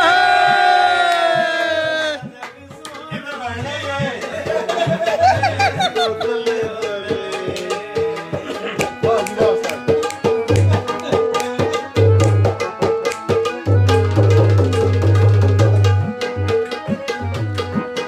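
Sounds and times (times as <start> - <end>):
fast hand-drum rhythm: 0.0 - 18.0.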